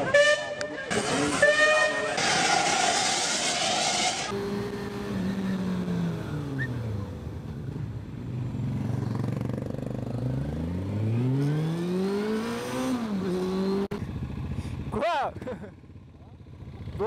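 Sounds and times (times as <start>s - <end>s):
motorcycle engine revving: 0.9s - 17.0s.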